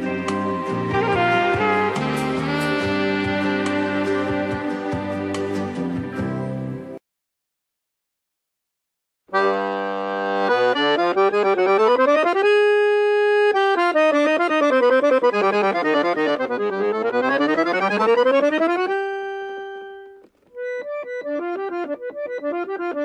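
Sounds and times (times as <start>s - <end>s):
bouncy accordion tune: 0.0s - 5.8s, 9.3s - 23.0s
accordion music: 0.0s - 6.8s, 9.3s - 23.0s.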